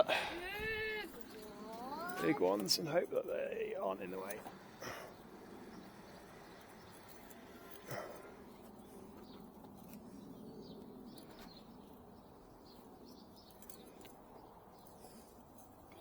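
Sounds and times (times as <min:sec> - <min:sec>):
low steady background hum: 0:00.0 - 0:16.0.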